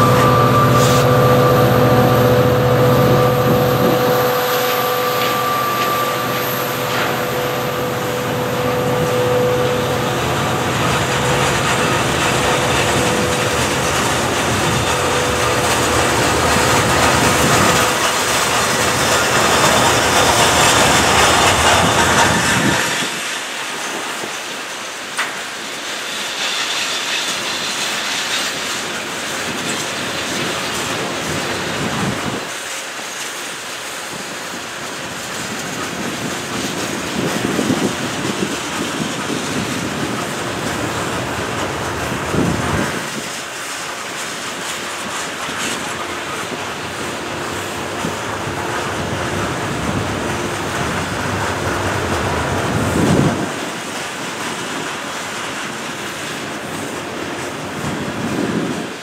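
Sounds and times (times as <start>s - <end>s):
freight train rolling past: 0.0s - 59.0s
wheels clacking over rail joints: 3.1s - 59.0s.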